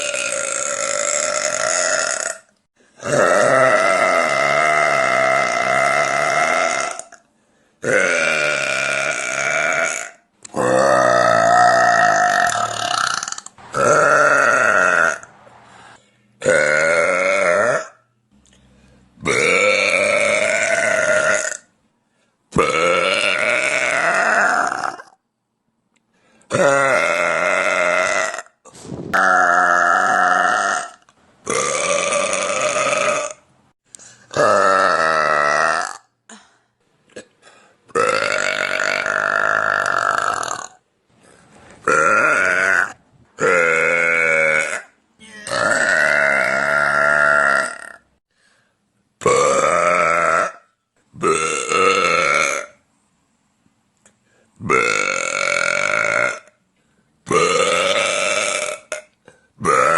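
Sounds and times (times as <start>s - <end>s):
woman burping loudly: 0.0s - 7.2s, 7.8s - 15.3s, 16.4s - 18.0s, 19.2s - 21.7s, 22.5s - 25.2s, 26.5s - 33.5s, 34.3s - 40.8s, 41.8s - 48.2s, 49.2s - 52.8s, 54.6s - 56.6s, 57.3s - 59.9s.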